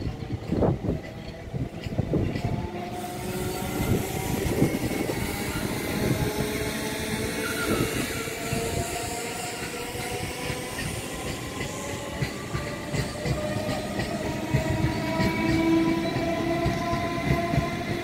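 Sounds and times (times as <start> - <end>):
train wheels rumbling and clattering: 0.0 - 18.0.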